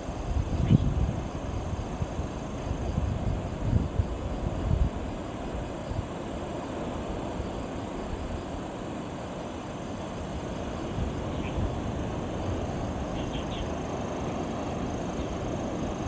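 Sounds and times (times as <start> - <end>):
sea: 0.0 - 16.0
wind: 0.0 - 16.0.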